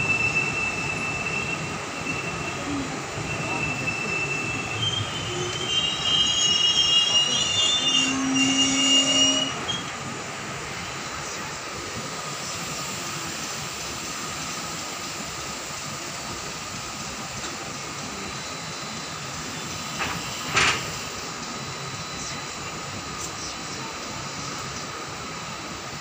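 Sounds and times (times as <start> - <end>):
train wheels squealing on rails: 0.0 - 10.1, 12.3 - 25.8
train rolling noise: 0.0 - 26.0.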